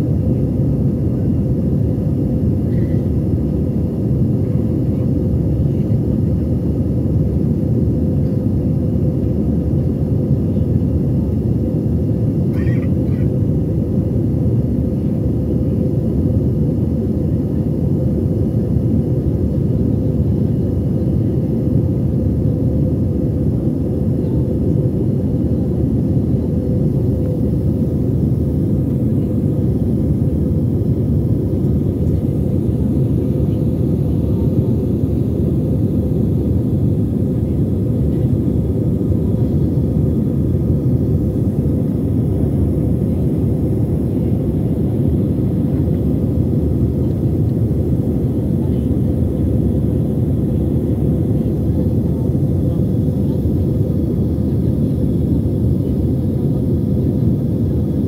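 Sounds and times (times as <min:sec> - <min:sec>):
faint steady hum: 0:00.0 - 0:58.0
jet engine and air drone: 0:00.0 - 0:58.0.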